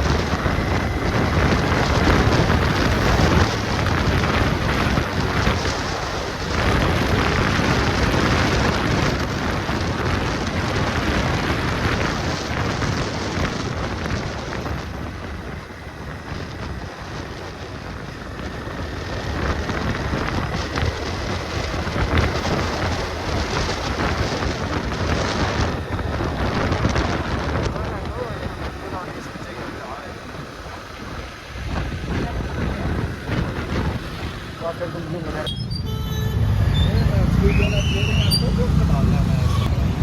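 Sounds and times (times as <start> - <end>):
road and traffic noise: 0.0 - 40.0
wind rushing over microphone: 0.0 - 40.0.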